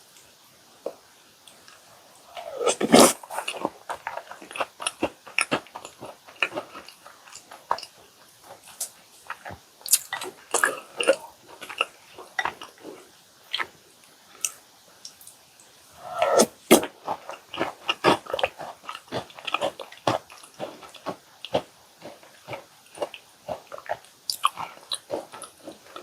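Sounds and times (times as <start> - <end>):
chewing cookies: 0.8 - 15.4, 16.0 - 26.0.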